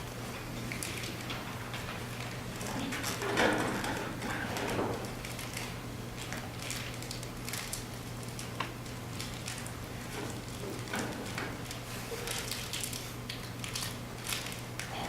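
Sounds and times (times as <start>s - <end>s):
low electrical hum: 0.0s - 15.0s
small crackles and clicks: 0.4s - 15.0s.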